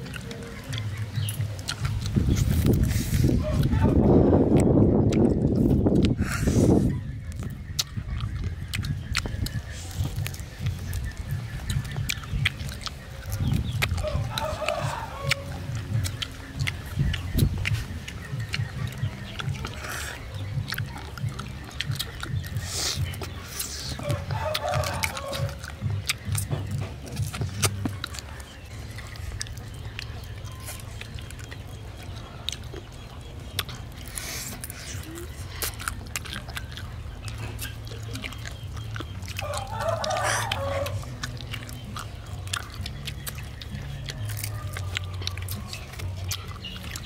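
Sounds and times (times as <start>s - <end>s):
children chewing and lip smacking: 0.0s - 47.0s
hen clucking: 0.0s - 47.0s.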